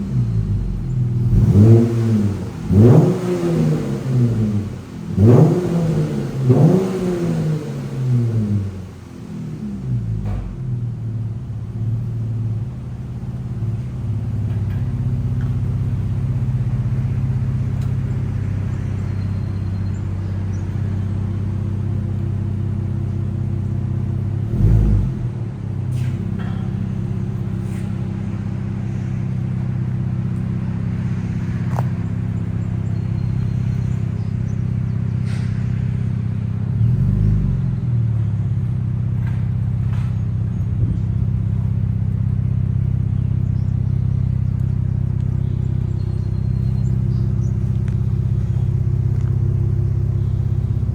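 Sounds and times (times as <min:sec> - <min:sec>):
car engine deep exhaust note: 0:00.0 - 0:50.9.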